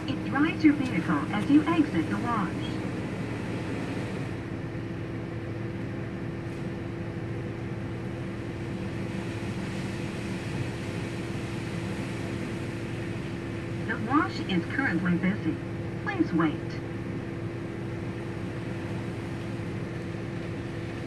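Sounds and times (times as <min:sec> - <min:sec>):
car wash machine hum: 0:00.0 - 0:21.0.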